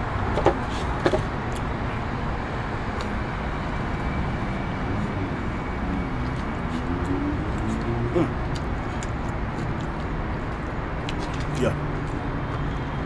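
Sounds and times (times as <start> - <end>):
passing street traffic: 0.0 - 13.0.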